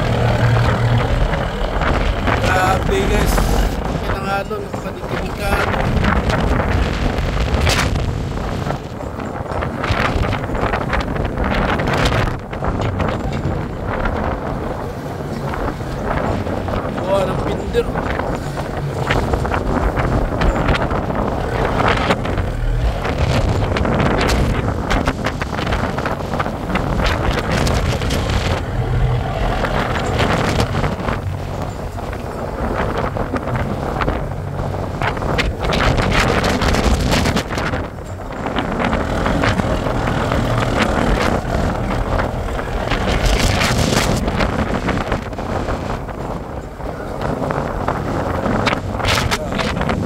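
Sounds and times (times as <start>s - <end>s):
steady low rumble: 0.0s - 50.0s
wind buffeting microphone: 0.0s - 50.0s.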